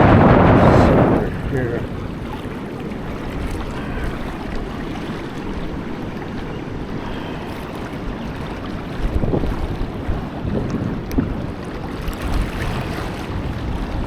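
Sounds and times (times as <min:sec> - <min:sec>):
flowing river water: 0:00.0 - 0:14.0
wind on the microphone: 0:00.0 - 0:14.0.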